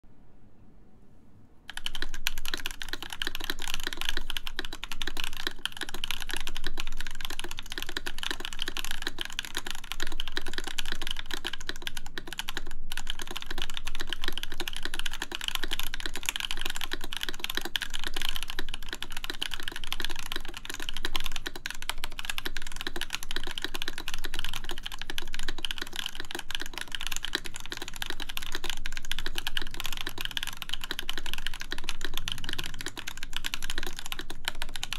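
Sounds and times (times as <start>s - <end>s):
mechanical keyboard typing: 1.7s - 34.9s.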